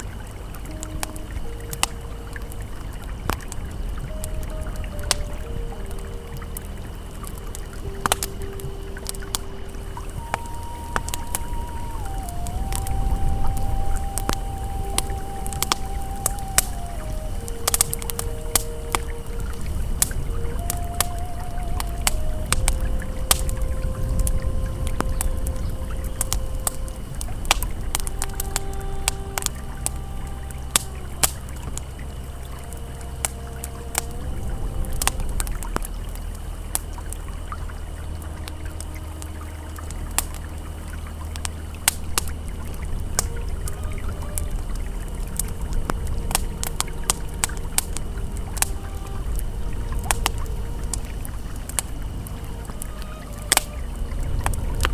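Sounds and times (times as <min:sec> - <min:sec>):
campfire crackling and popping: 0:00.0 - 0:54.9
river flowing: 0:00.0 - 0:54.9
soft ambient tones: 0:00.0 - 0:54.9.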